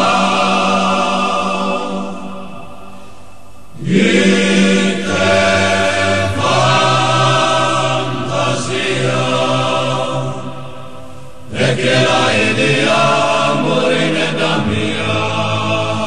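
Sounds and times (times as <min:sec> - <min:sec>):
male choir singing a cappella: 0:00.0 - 0:02.9, 0:03.7 - 0:16.0.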